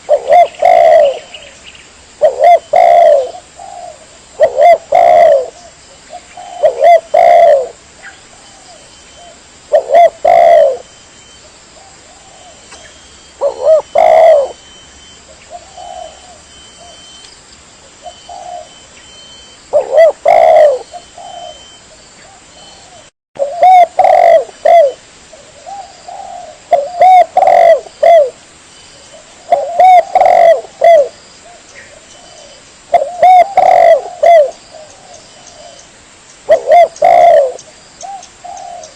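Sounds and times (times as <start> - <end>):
dove cooing: 0.0 - 1.6, 2.2 - 17.2, 17.9 - 28.4, 29.0 - 38.9.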